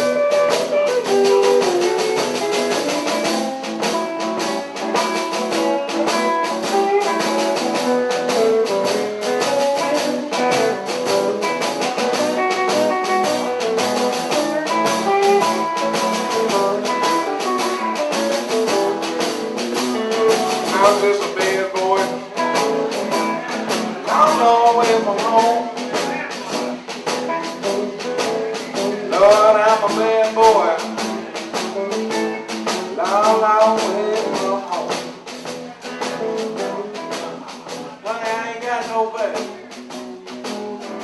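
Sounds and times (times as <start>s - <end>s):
blues guitar playing: 0.0s - 41.0s.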